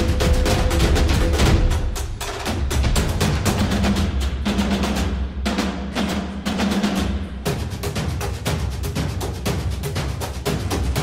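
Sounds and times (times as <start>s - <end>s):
taiko drumming: 0.0s - 11.0s.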